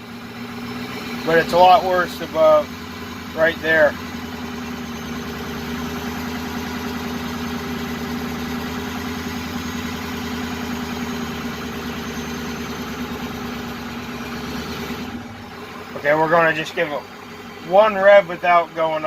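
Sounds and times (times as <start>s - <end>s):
truck engine misfiring: 0.3s - 19.0s.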